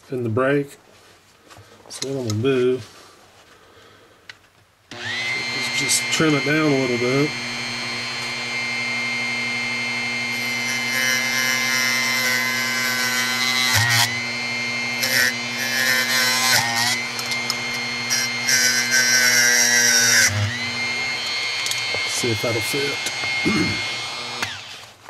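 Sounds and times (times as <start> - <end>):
rotary tool whining: 4.9 - 25.0.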